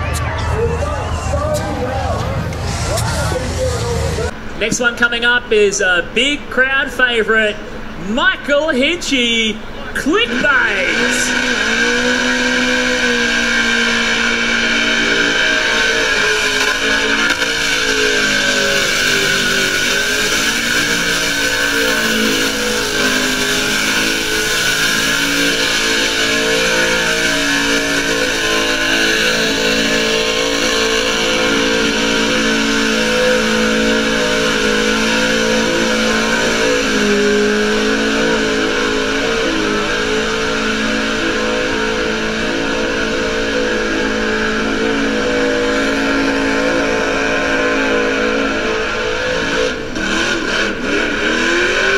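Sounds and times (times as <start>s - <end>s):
car engine revving high: 7.6s - 51.9s.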